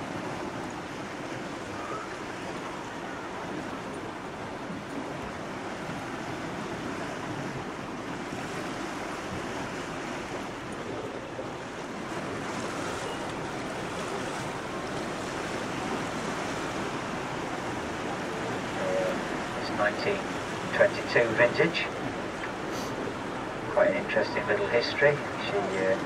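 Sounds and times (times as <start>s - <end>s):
water rushing along boat hull: 0.0s - 26.0s.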